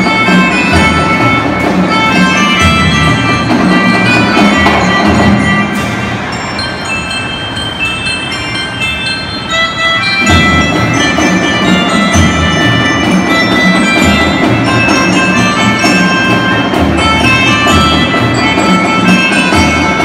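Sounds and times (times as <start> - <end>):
bell lyre melody: 0.0 - 20.0
marching band playing: 0.0 - 20.0.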